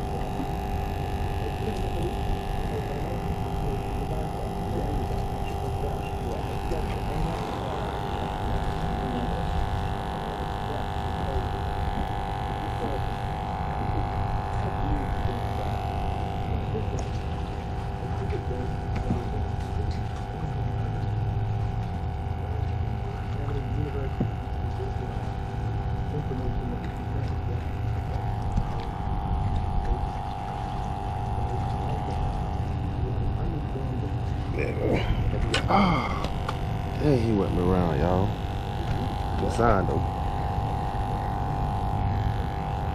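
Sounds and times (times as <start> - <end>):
mechanical hum: 0.0 - 42.9.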